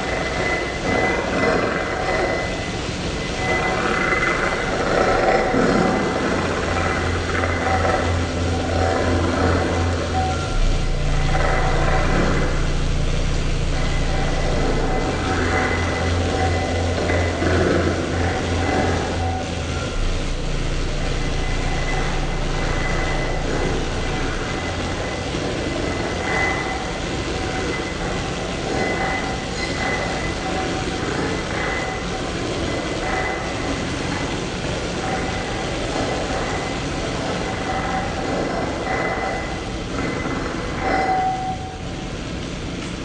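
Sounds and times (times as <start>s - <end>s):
dense electronic noise: 0.0s - 43.0s
low drone: 0.0s - 43.0s.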